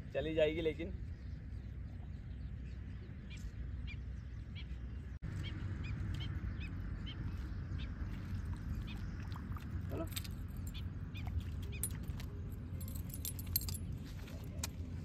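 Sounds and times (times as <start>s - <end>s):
wind rumble on microphone: 0.8s - 15.0s.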